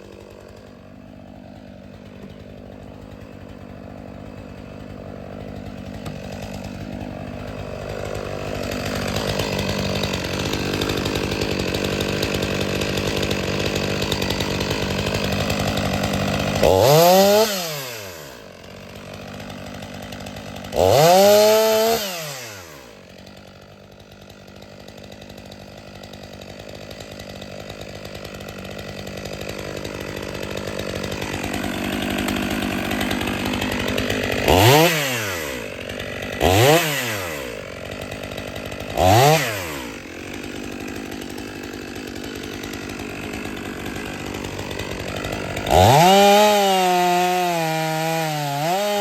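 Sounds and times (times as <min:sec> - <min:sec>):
chainsaw revving and running: 0:00.0 - 0:49.0.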